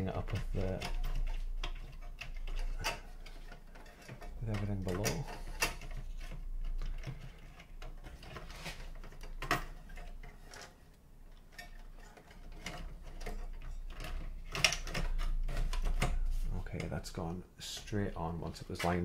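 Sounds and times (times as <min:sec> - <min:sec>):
plastic and metal clicks and scrapes: 0:00.0 - 0:17.0.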